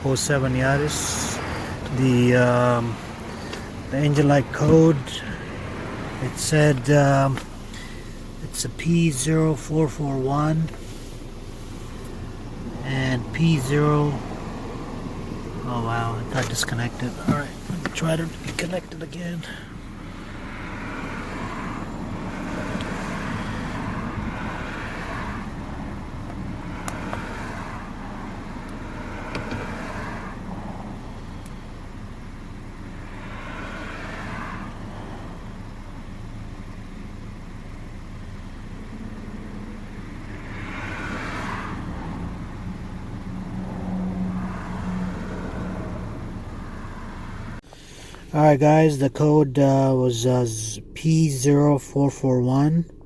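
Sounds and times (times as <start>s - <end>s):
car engine idling: 0.0s - 53.0s
vehicles passing: 0.0s - 53.0s.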